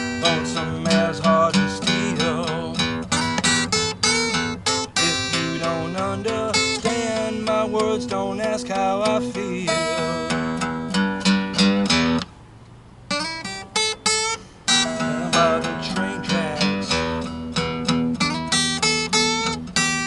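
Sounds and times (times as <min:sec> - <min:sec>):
acoustic blues guitar: 0:00.0 - 0:20.0.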